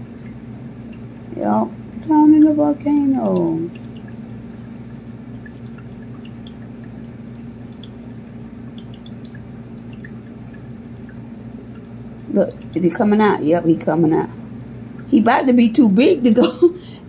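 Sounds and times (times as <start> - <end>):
drips and bubble pops: 0.0 - 15.2
aquarium water trickling: 0.0 - 17.0.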